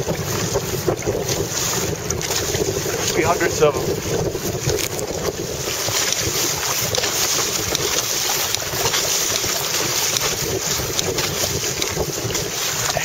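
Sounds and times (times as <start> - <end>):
water splashing against hull: 0.0 - 13.0
wind blowing on microphone: 0.0 - 13.0.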